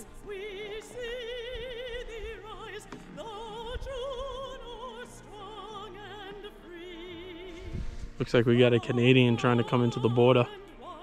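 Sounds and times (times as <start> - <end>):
opera singing with vibrato: 0.0 - 11.0.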